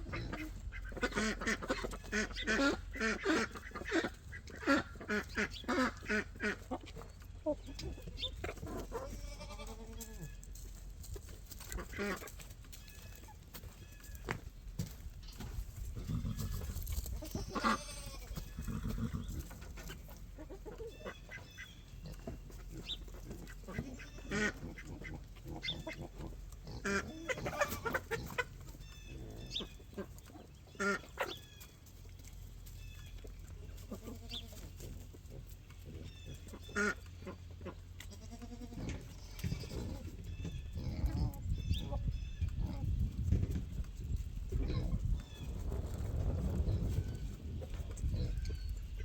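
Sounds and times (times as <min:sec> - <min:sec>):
birds calling: 0:00.0 - 0:49.0.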